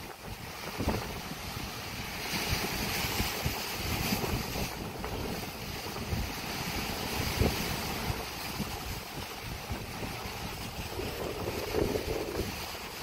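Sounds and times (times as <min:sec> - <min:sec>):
sea surf washing against rocks: 0:00.0 - 0:13.0
wind buffeting microphone: 0:00.0 - 0:13.0.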